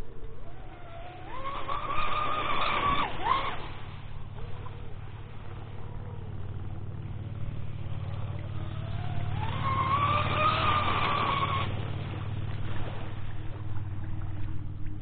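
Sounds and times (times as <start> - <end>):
electric boat motor whining: 0.0 - 15.0.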